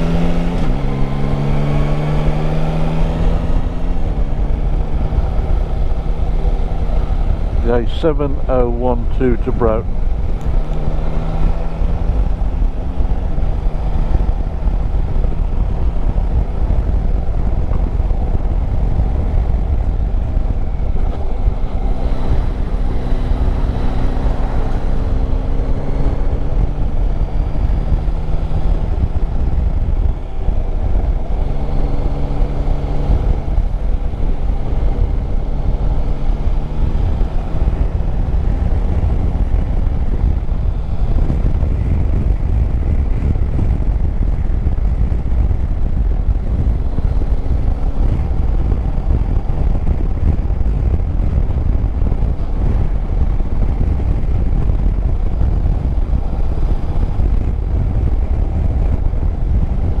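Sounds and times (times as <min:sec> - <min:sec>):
motorcycle engine running: 0:00.0 - 1:00.0
wind noise on microphone: 0:00.0 - 1:00.0.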